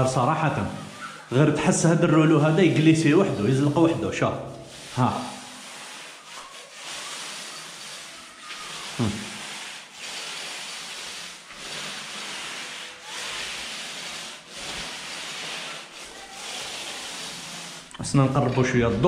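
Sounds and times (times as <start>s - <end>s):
paint roller rasping on wall: 0.0s - 19.0s.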